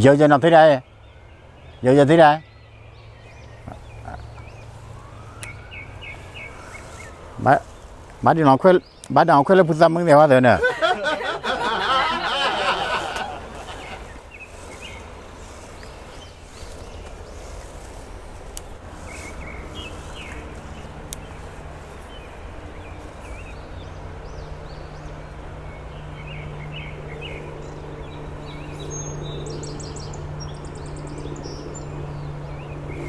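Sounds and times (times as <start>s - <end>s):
outdoor background noise: 0.0s - 33.0s
small birds chirping: 0.0s - 33.0s.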